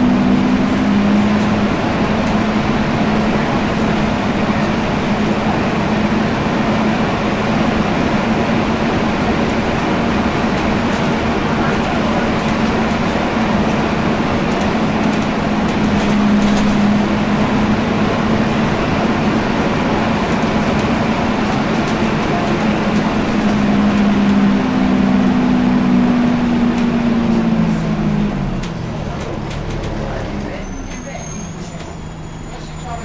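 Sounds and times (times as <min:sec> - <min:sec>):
engine cooling fan: 0:00.0 - 0:30.6
bus diesel engine drone: 0:00.0 - 0:33.0.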